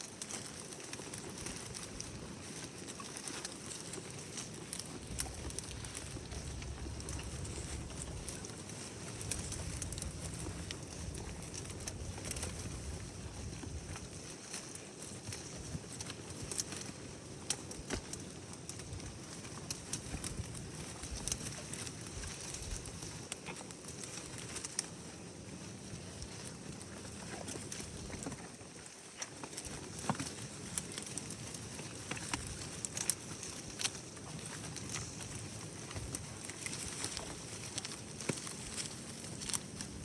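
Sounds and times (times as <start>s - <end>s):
goats chewing fodder: 0.0s - 40.0s.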